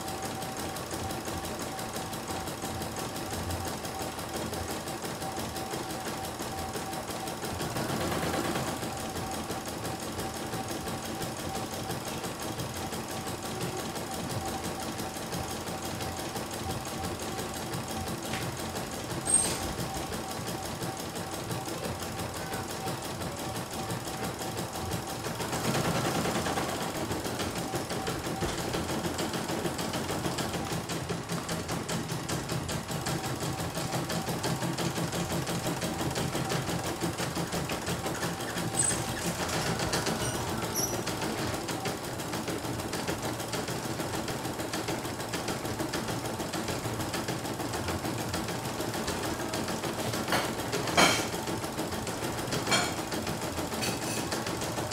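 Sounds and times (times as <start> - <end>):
embroidery machine needle stitching: 0.0 - 54.9.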